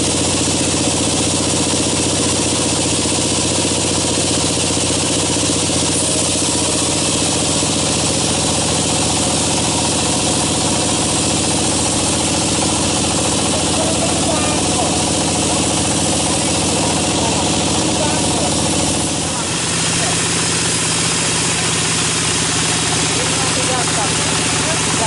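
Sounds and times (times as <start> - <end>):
band saw cutting timber: 0.0 - 25.0.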